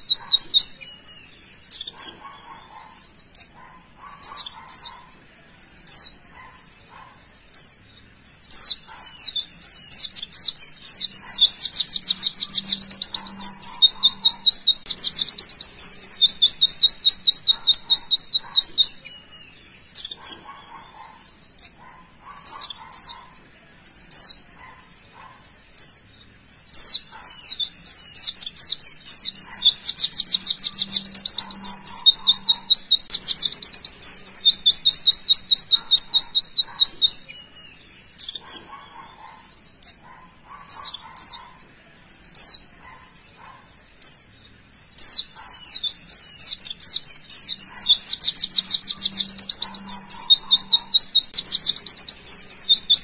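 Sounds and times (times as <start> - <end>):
bird chirping and trilling: 0.0 - 53.0.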